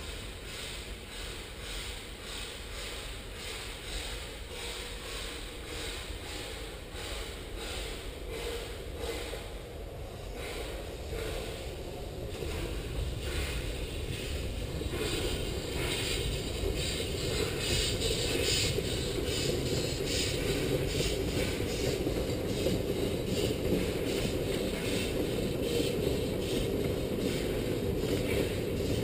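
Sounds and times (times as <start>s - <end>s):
steam locomotive exhaust chuffing: 0.0s - 29.0s.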